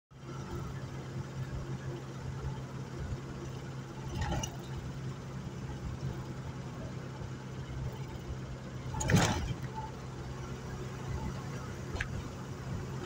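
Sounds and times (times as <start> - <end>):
vehicle engine and tyres droning: 0.1 - 13.0.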